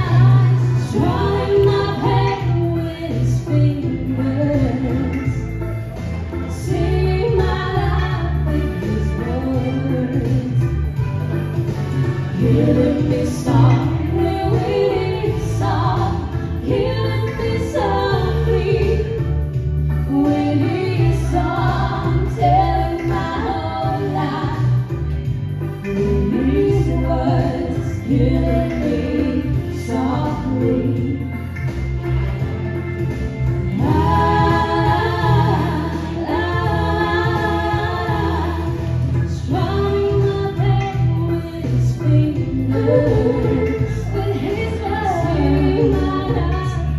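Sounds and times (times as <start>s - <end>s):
amplified instrumental music: 0.0s - 46.9s
bass beat: 0.0s - 46.9s
women singing a duet: 0.0s - 46.9s.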